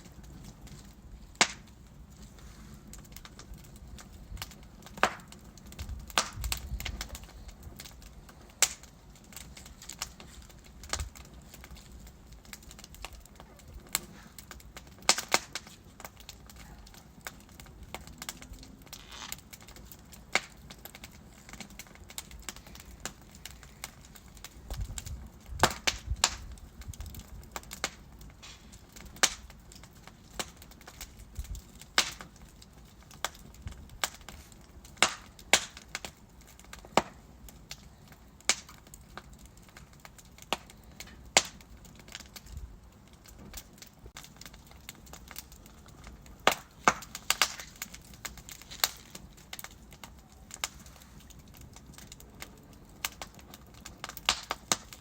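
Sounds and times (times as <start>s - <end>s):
fire flare-ups rumbling: 0.0s - 55.0s
low steady fire hiss: 0.0s - 55.0s
wood fire crackling and popping: 0.0s - 55.0s.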